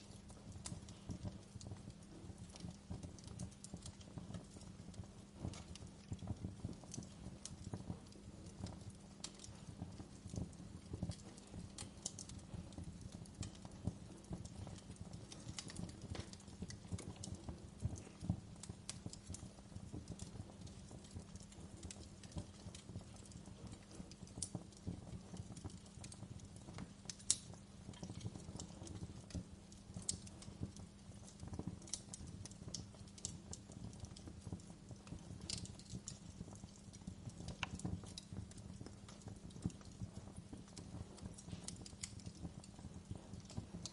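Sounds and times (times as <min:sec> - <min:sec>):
fireplace fire crackling: 0:00.0 - 0:43.9
wood fire pops and snaps: 0:00.0 - 0:43.9.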